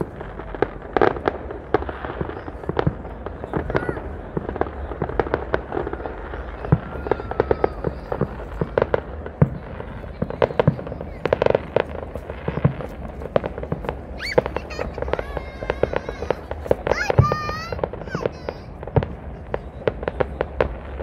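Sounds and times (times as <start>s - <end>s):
fireworks popping and cracking: 0.0s - 21.0s.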